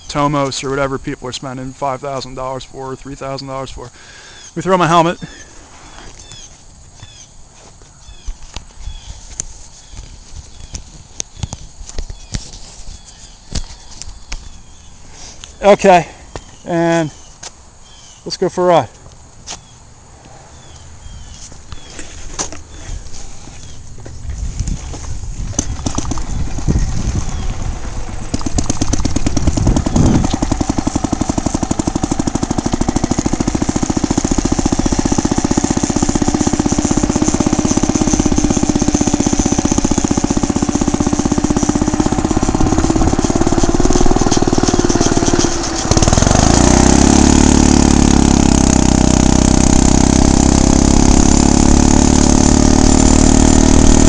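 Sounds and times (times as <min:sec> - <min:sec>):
small gas engine putt-putt: 0:00.0 - 0:54.0.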